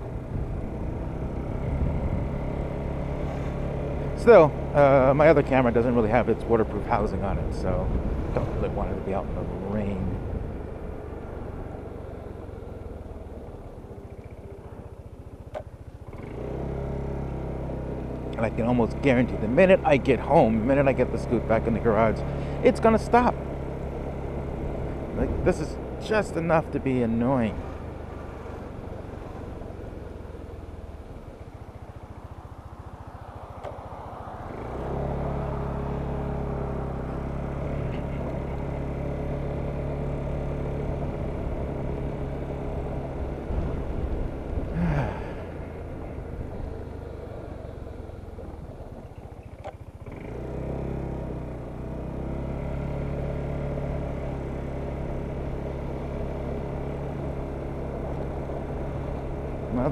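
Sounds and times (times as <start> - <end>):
scooter engine droning: 0.0 - 59.9.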